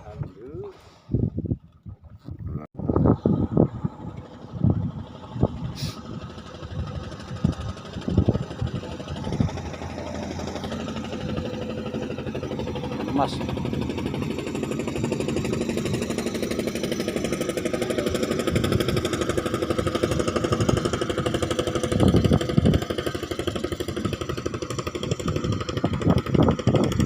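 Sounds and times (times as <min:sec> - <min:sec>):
boat engine chugging: 0:02.8 - 0:27.0.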